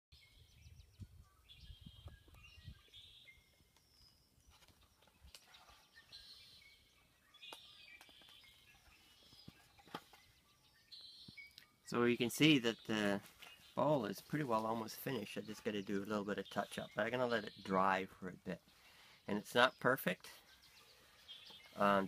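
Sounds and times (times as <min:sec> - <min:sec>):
birds chirping and trilling: 0:00.1 - 0:22.0.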